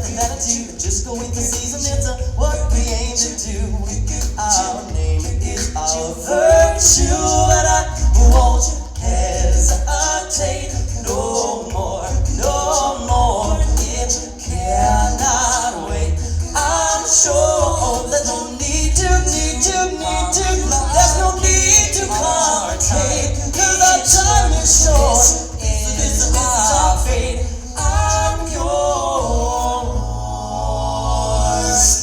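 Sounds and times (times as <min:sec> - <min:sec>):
song with sung melody: 0:00.0 - 0:32.0
strong bass: 0:00.0 - 0:32.0.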